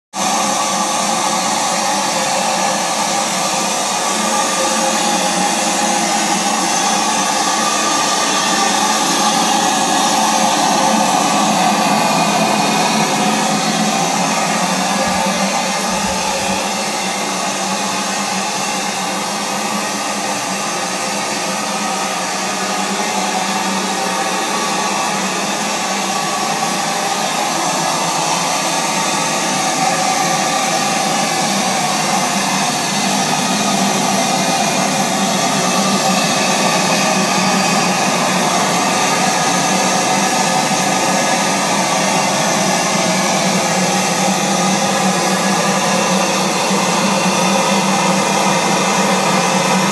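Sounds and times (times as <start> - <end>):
steam engine hissing whir: 0.2 - 49.9.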